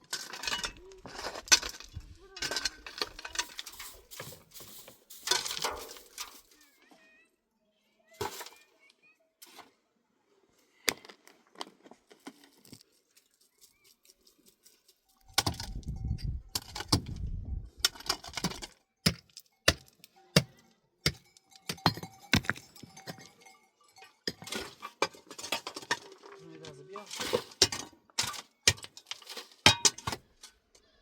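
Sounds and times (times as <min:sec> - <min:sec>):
clinks and knocks of objects: 0:00.0 - 0:06.8, 0:08.2 - 0:08.8, 0:10.8 - 0:30.9.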